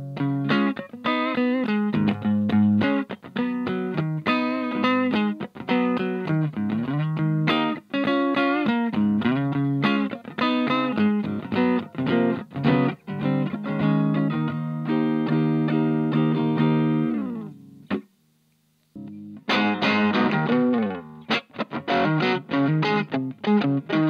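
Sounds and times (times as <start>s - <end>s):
electric guitar playing: 0.0s - 18.1s, 18.9s - 24.0s.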